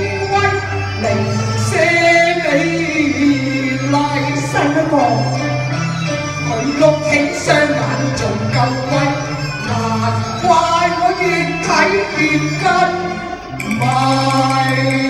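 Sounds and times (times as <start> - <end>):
person singing into microphones: 0.0 - 5.8, 6.4 - 15.0
instrumental backing music: 0.0 - 15.0.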